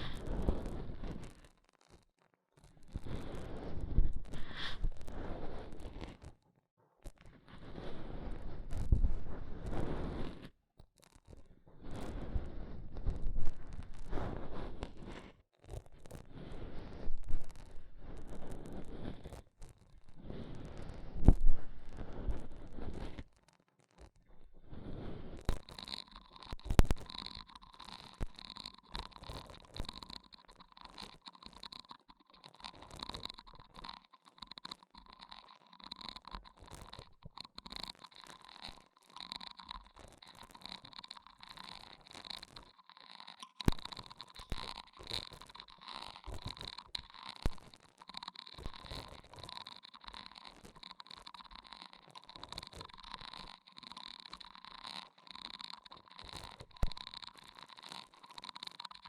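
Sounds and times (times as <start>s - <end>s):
soft scratching and crackling: 0.0s - 59.0s.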